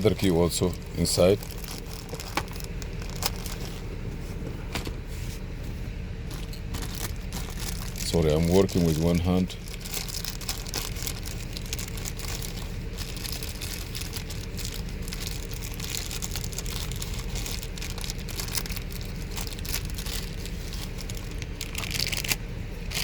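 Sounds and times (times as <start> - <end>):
crinkling and rustling: 0.0 - 23.0
steady low hum: 0.0 - 23.0.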